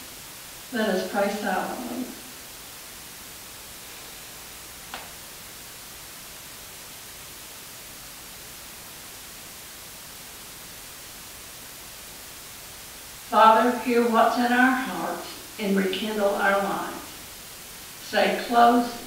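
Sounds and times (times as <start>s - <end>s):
recording hiss: 0.0s - 19.0s.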